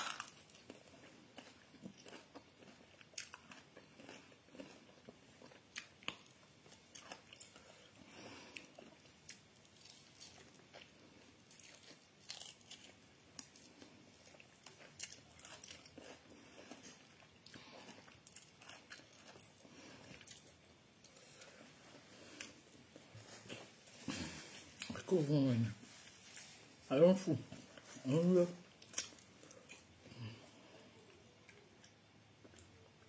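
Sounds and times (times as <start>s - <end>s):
person chewing food: 0.0s - 26.8s, 27.4s - 33.0s.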